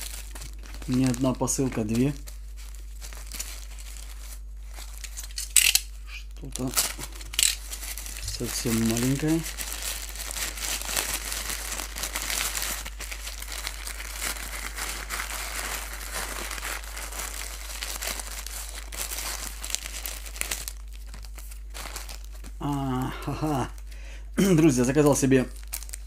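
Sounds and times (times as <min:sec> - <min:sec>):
plastic bag crinkling: 0:00.0 - 0:26.0.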